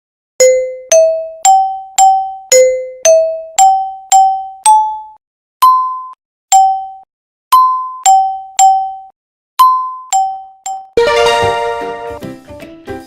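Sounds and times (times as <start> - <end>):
glockenspiel melody: 0.4 - 7.0, 7.6 - 12.4.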